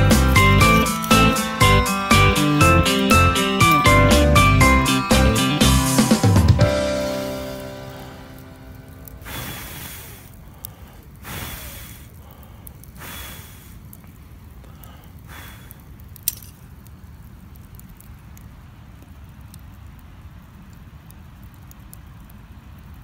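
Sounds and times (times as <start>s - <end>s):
campfire whooshing: 0.0s - 23.0s
fire crackling clicks: 0.0s - 23.0s
sharp crack of fire: 0.0s - 23.0s.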